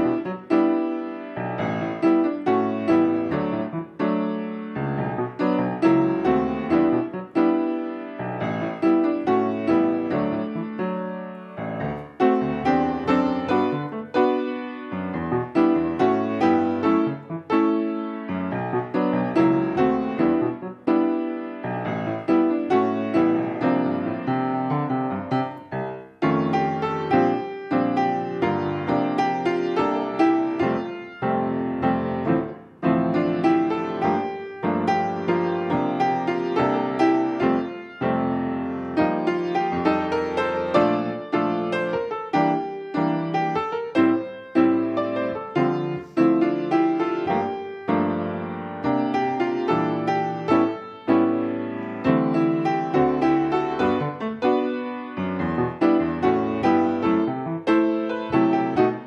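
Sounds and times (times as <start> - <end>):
grand piano chords: 0.0 - 59.0.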